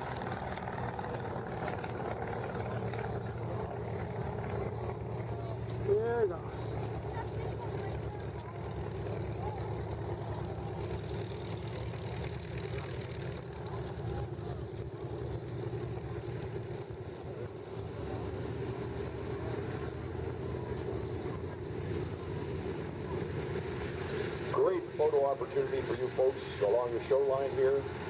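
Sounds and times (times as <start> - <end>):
radial aircraft engines running: 0.0 - 28.0.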